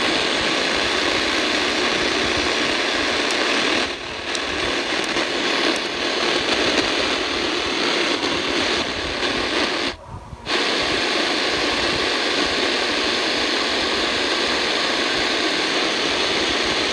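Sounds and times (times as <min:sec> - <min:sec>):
radio static hissing: 0:00.0 - 0:16.9.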